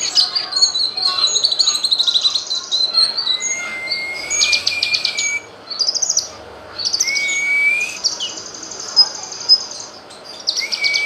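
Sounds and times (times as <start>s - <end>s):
bird singing trills and whistles: 0.0s - 11.0s.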